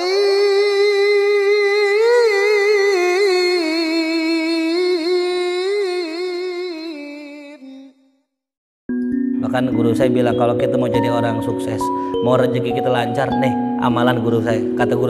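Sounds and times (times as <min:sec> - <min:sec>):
person chanting: 0:00.0 - 0:08.0, 0:09.4 - 0:15.0.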